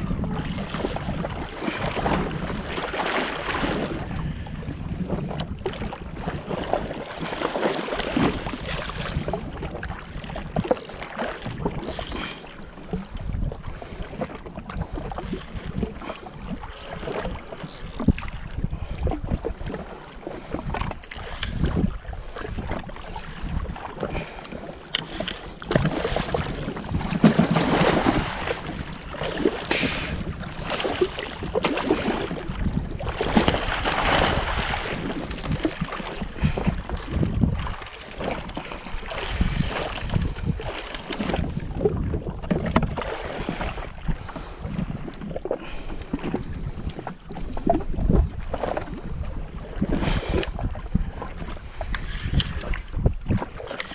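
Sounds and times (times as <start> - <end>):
sea water splashing: 0.0 - 53.9
wind buffeting microphone: 0.0 - 53.9.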